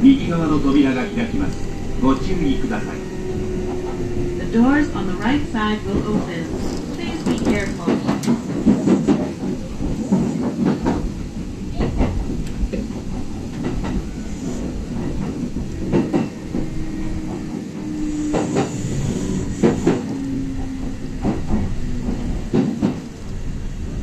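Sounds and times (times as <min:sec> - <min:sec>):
train running rumble: 0:00.0 - 0:24.0
train wheels clicking on rail joints: 0:00.0 - 0:24.0.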